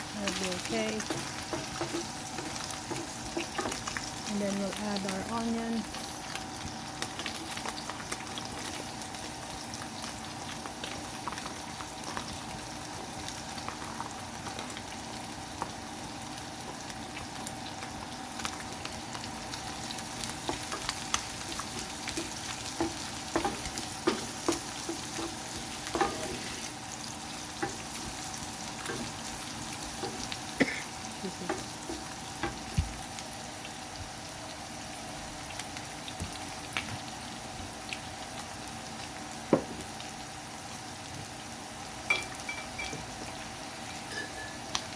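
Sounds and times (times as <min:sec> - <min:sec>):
onion sizzling in frying pan: 0:00.0 - 0:44.9.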